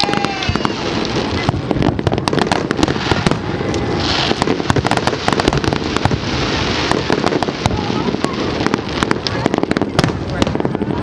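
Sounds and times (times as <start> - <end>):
fireworks crackling: 0.0 - 11.0
fireworks cracks and bangs: 0.0 - 11.0.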